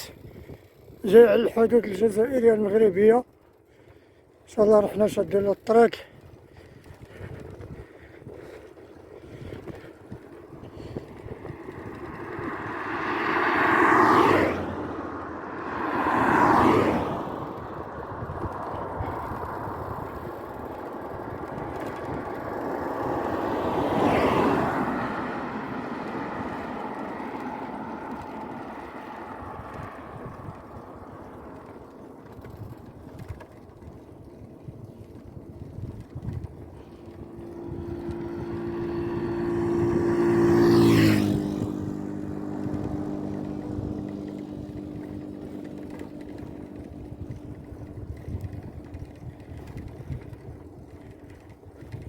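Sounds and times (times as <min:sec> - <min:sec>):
road and wind noise: 0:00.0 - 0:52.0
vehicles passing on road: 0:00.0 - 0:52.0.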